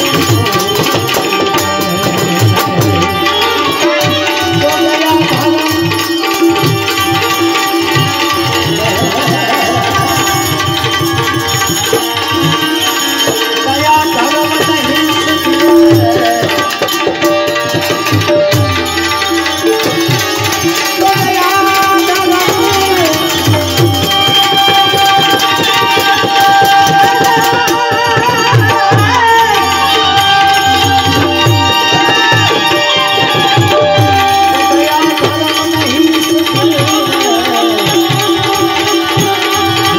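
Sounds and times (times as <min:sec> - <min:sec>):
tabla drumming: 0:00.0 - 0:39.9.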